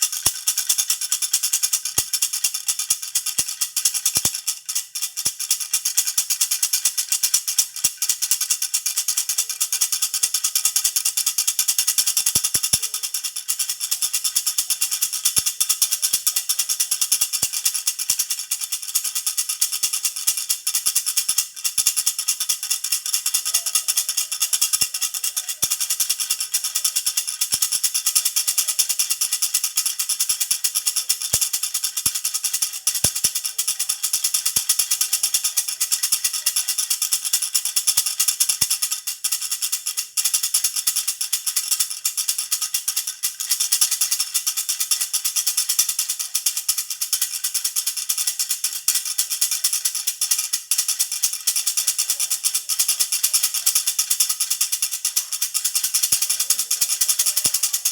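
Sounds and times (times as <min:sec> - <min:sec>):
baby's rattle jingling: 0:00.0 - 0:57.9.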